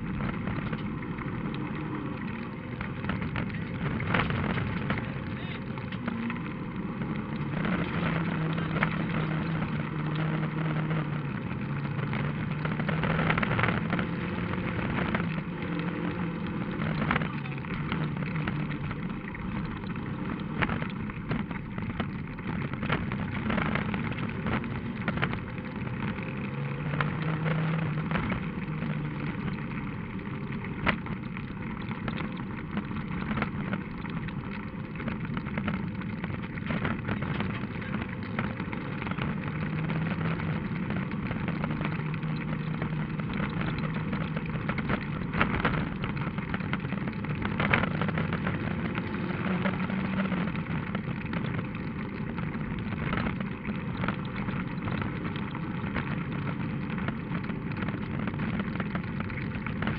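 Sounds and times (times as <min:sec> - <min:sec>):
gravel clattering against car body: 0:00.0 - 0:59.9
rally car engine running hard: 0:00.0 - 0:59.9.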